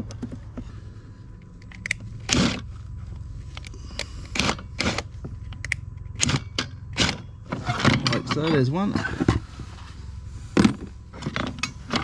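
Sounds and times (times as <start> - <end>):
crunching and scraping: 0.0 - 12.0.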